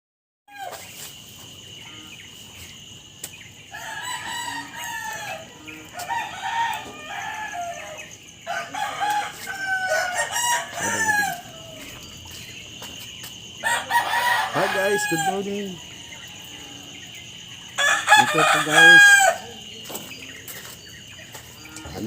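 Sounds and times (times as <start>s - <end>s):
roosters crowing: 0.5s - 22.0s.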